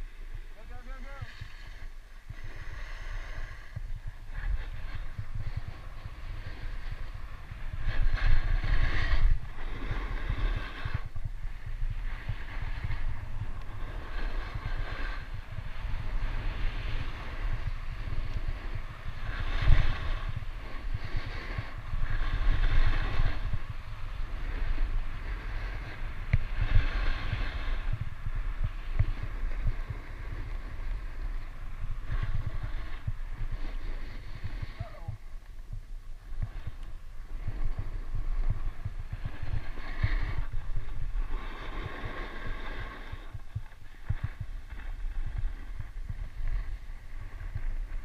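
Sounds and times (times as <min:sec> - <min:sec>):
skis scraping over snow: 0:00.0 - 0:48.0
wind on microphone: 0:00.0 - 0:48.0.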